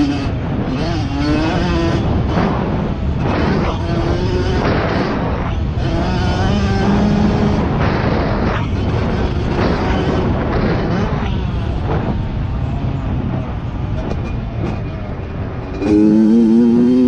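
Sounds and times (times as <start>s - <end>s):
dense low rumble: 0.0s - 16.7s
dirt bike engine running: 0.0s - 17.0s.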